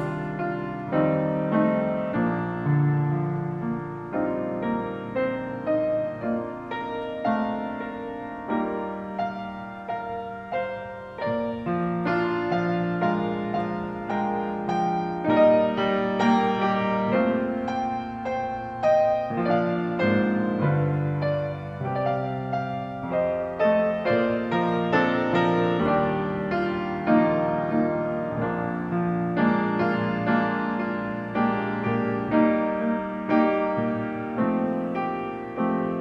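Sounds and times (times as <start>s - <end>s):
grand piano playing slow piece: 0.0s - 36.0s.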